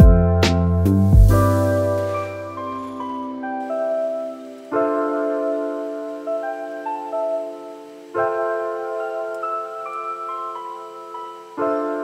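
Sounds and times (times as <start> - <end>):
soft piano-like keyboard music: 0.0 - 12.0.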